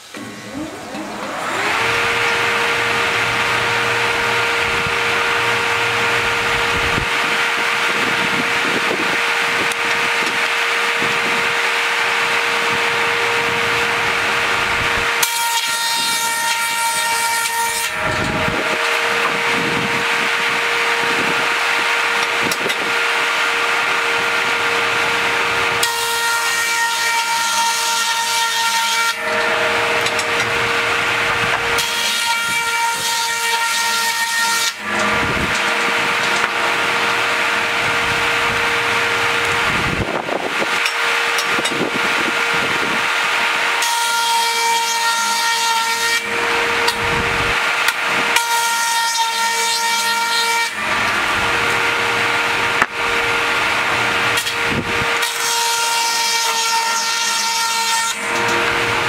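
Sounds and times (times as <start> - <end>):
circular saw blade whining: 0.0 - 59.0
saw cutting wood: 0.0 - 59.0.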